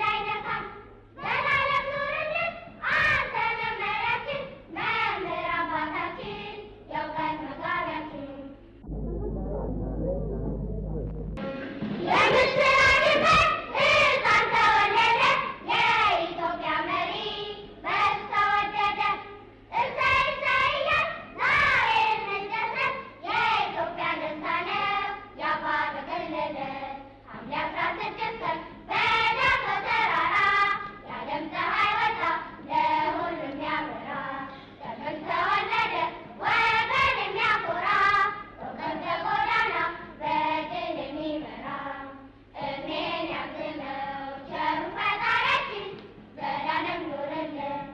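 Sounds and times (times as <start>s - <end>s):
children singing together: 0.0s - 8.6s, 11.9s - 47.9s.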